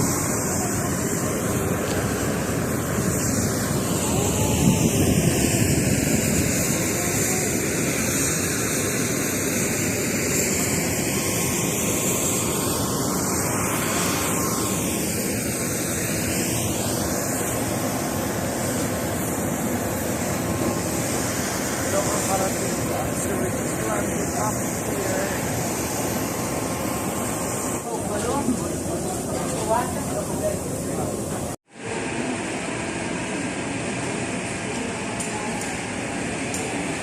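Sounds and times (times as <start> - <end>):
airliner engines: 0.0 - 37.0
rushing air: 0.0 - 37.0.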